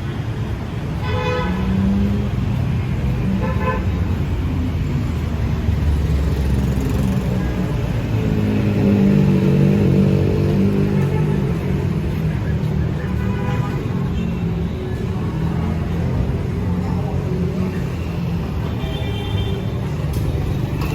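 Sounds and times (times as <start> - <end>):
city street traffic: 0.0 - 20.9.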